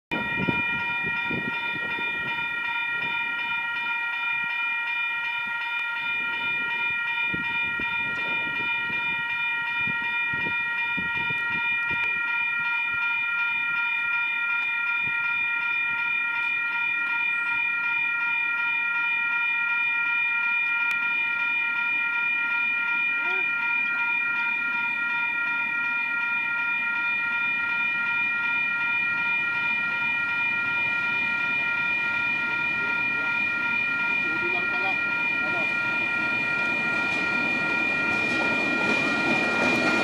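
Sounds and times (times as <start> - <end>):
level crossing bell ringing: 0.1 - 40.0.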